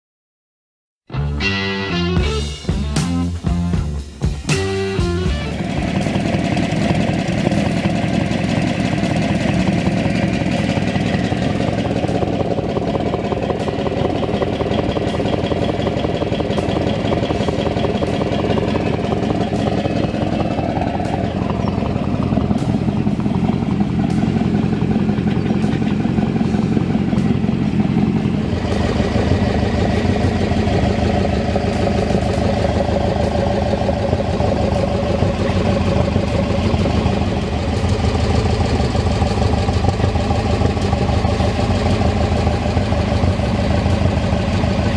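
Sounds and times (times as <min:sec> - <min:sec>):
car engines idling: 0:02.3 - 0:44.9.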